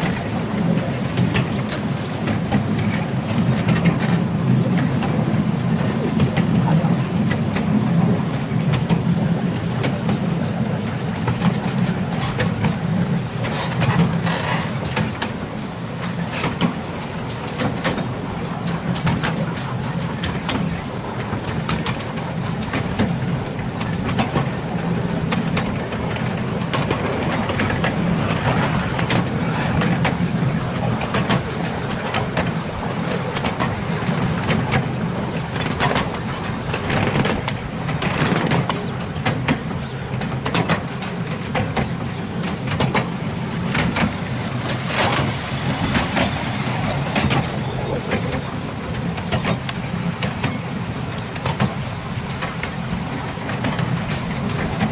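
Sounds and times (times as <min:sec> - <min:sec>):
wheels clattering over track: 0:00.0 - 0:54.9.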